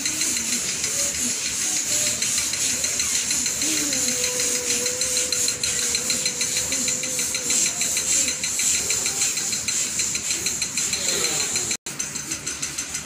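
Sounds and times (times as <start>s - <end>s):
steady held tone: 0.0s - 11.8s.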